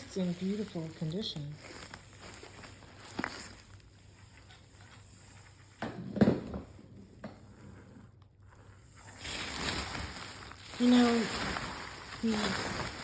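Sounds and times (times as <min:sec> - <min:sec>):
faint rustling: 0:00.0 - 0:05.8, 0:07.4 - 0:13.0.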